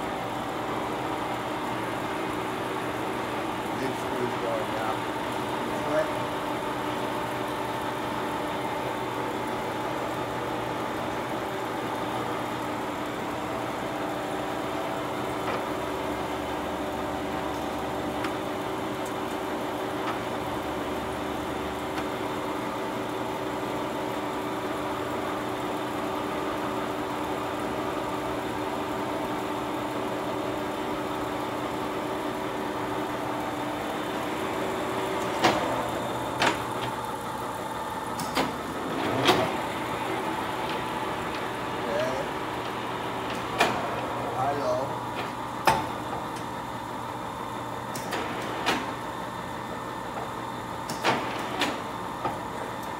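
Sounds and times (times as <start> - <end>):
lathe drive humming: 0.0 - 52.9.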